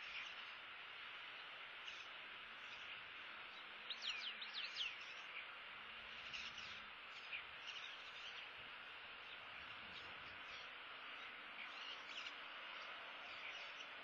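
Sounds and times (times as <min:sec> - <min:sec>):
bird chirps: 0:00.0 - 0:00.6, 0:01.4 - 0:05.5, 0:06.1 - 0:08.6, 0:09.2 - 0:14.0
steady background hiss: 0:00.0 - 0:14.0.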